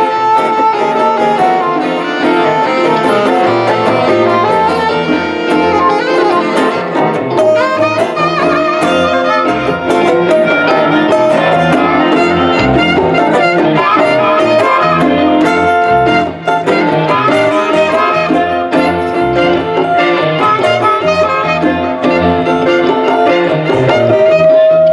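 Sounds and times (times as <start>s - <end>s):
live band playing: 0.0s - 24.9s
saxophone lead line: 0.0s - 24.9s.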